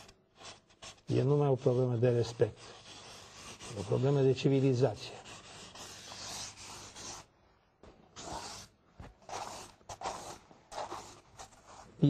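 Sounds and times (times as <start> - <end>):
pencil scratching on paper: 0.0 - 7.3, 8.2 - 12.0.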